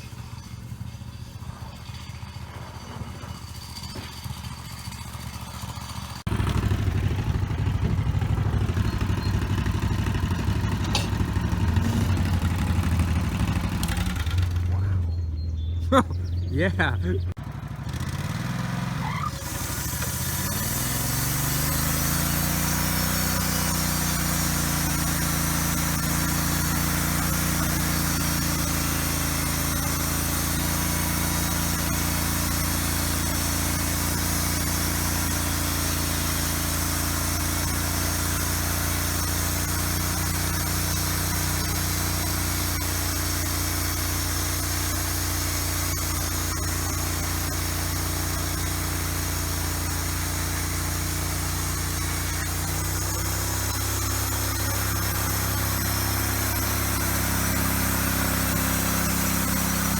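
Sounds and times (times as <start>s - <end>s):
sawmill machinery spinning: 0.0s - 59.9s.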